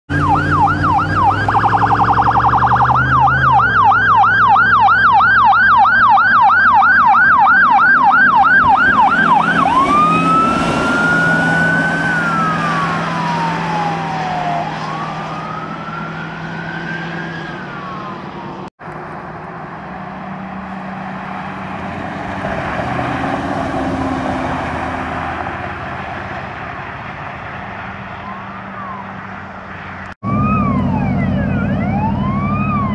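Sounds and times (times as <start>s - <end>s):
fire truck sirens: 0.1s - 32.9s.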